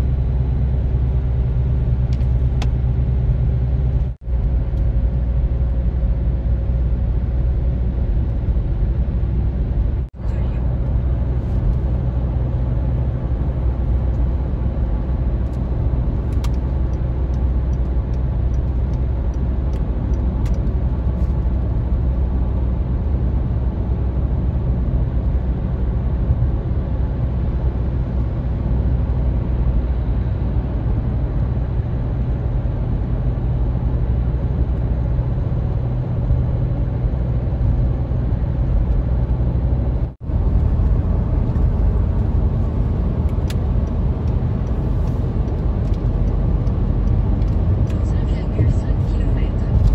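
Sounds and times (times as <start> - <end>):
car road noise rumble: 0.0 - 49.9.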